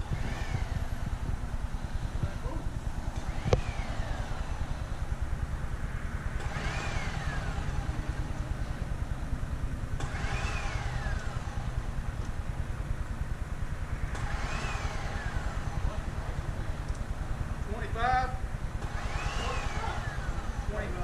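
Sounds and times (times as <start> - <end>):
diesel engine running: 0.0 - 21.0
rising and falling whine: 0.0 - 21.0.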